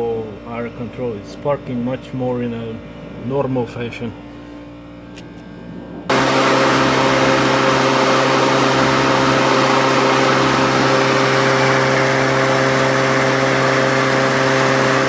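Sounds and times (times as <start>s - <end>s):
electric motor humming and whirring: 0.0s - 15.0s.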